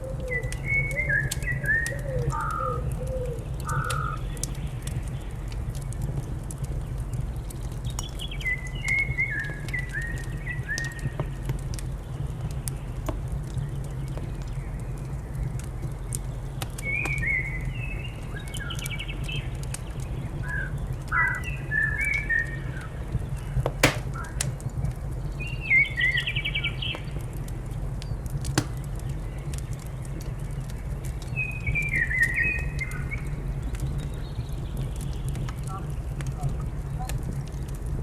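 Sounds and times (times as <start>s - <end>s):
wood fire crackling and popping: 0.1s - 20.1s, 23.8s - 38.0s.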